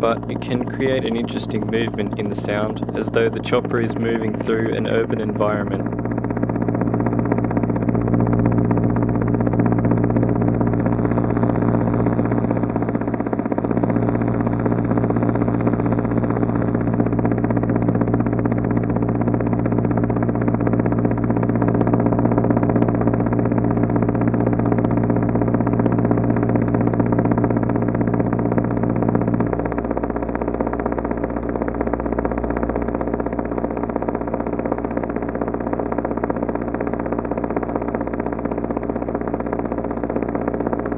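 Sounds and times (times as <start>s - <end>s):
synthesized helicopter sound: 0.0s - 40.9s.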